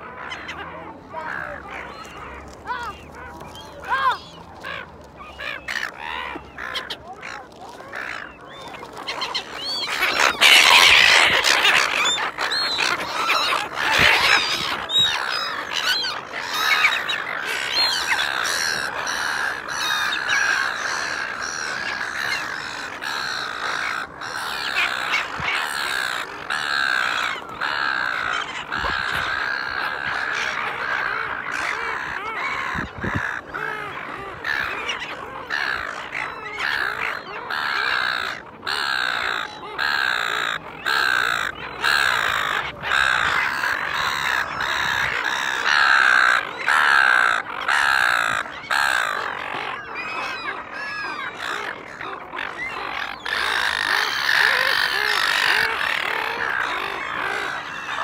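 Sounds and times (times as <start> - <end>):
gulls calling: 0.0 - 58.0.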